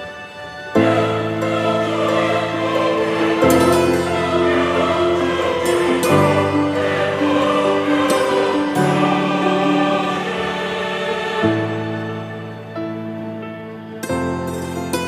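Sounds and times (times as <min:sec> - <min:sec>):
choir background music: 0:00.0 - 0:15.0.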